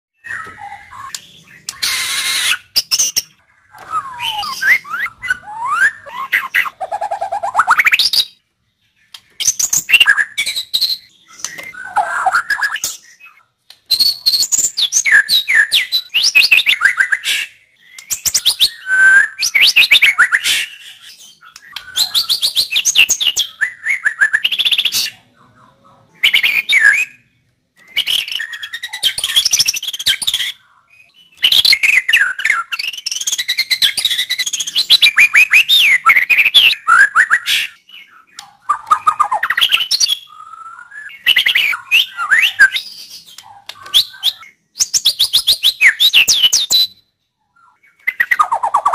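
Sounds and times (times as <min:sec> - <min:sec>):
bird singing whistles and trills: 0:00.2 - 0:08.4, 0:09.0 - 0:48.9.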